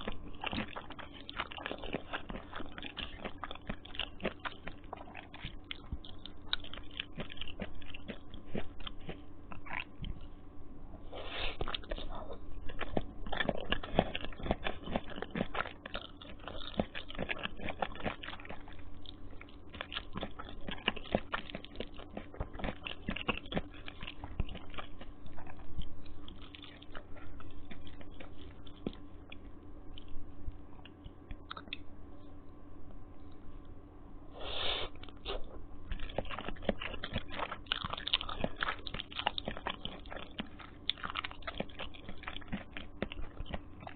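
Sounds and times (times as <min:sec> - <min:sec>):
wet chewing and mouth sounds: 0:00.0 - 0:32.5, 0:34.4 - 0:43.9.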